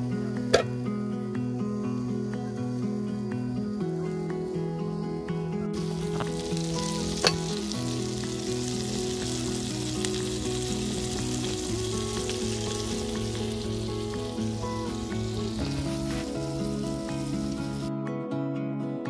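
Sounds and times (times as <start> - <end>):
food sizzling in a pan: 0.0 - 17.9
background music of sustained chords: 0.0 - 19.0.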